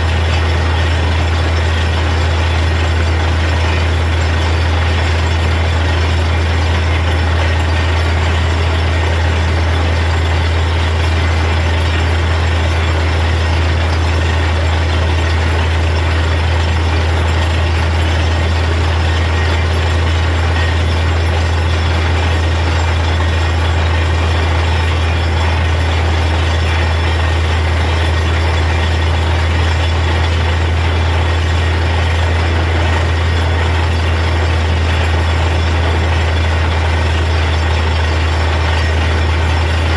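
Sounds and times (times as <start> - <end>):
drilling rig engine drone: 0.0 - 39.9
water rushing out of borehole: 0.0 - 39.9.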